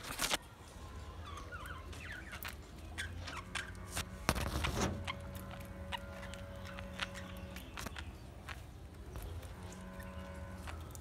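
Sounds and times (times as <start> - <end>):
budgerigars chirping and chattering: 1.2 - 3.9, 4.5 - 11.0.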